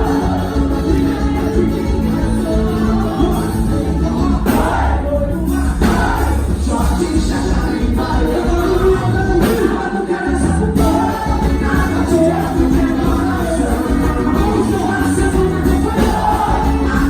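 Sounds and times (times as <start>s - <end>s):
person singing with band: 0.0s - 17.0s
strong continuous bass: 0.0s - 17.0s.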